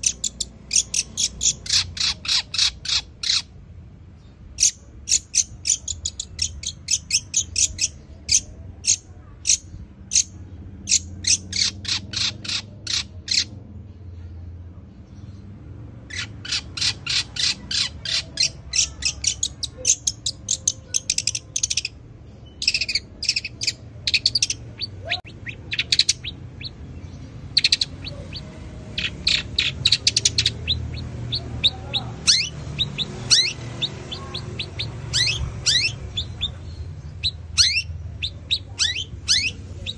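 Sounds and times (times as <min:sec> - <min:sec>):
bird chirping rapidly: 0:00.0 - 0:03.6, 0:04.2 - 0:13.6, 0:16.0 - 0:39.9.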